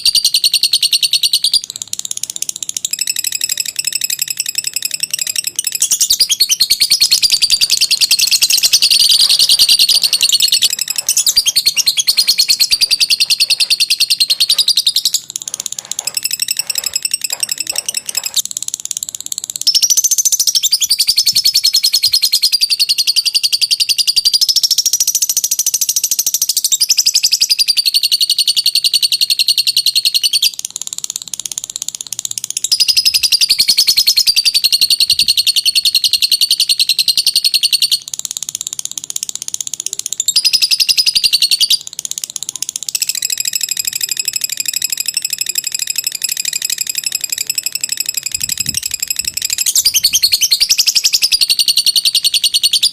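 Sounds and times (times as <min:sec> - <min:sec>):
lovebird chattering trill: 0:00.0 - 0:18.8, 0:19.4 - 0:52.9.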